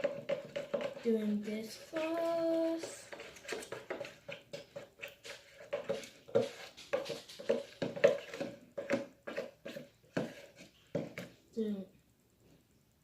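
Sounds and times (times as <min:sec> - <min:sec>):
slime squelching: 0:00.0 - 0:11.3.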